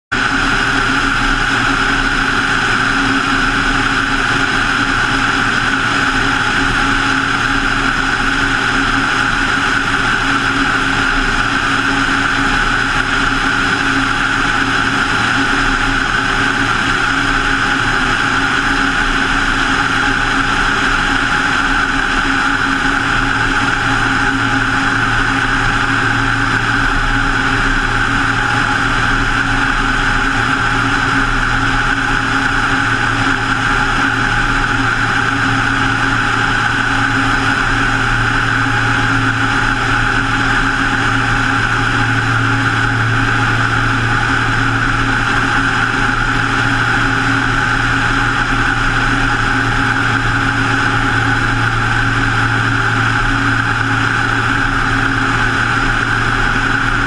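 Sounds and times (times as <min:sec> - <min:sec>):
light aircraft engine and propeller: 0:00.1 - 0:57.0.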